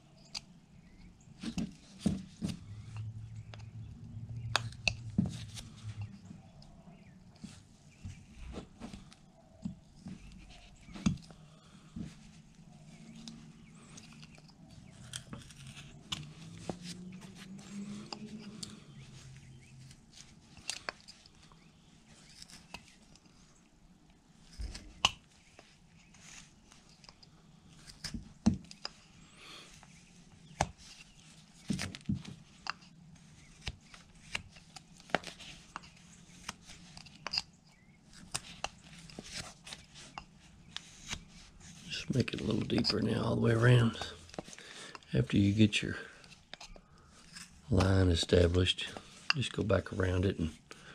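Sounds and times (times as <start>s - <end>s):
knife carving wood: 0.1s - 23.7s, 24.3s - 50.7s.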